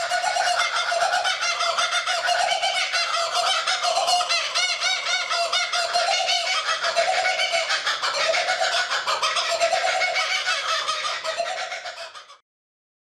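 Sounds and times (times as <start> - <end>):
kookaburra laughing call: 0.0 - 12.4.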